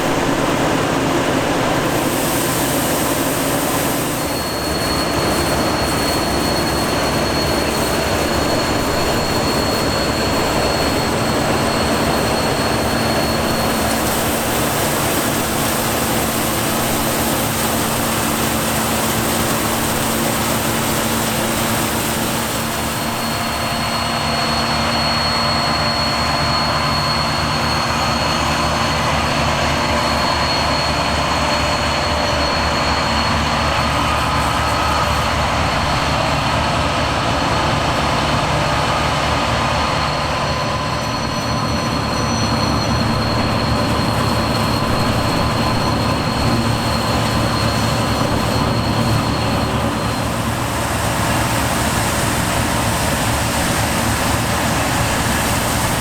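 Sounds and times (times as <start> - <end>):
high whine: 0.0 - 56.0
machinery whining: 0.0 - 56.0.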